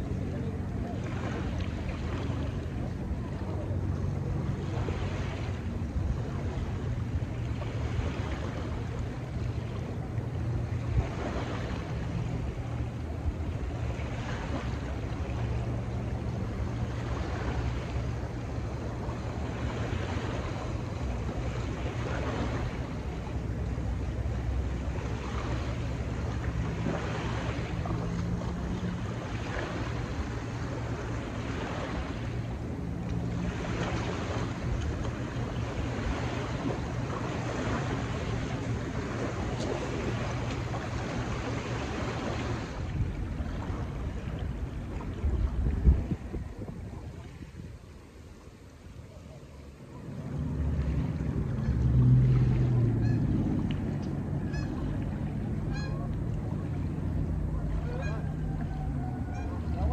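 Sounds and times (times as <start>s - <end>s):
small waves lapping on sand: 0.0s - 59.9s.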